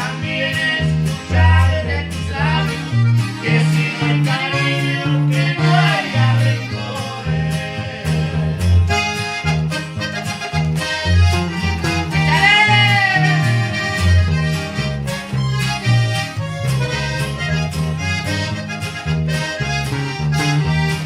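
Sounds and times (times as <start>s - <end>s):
accordion melody: 0.0s - 21.0s
bass line: 0.0s - 21.0s.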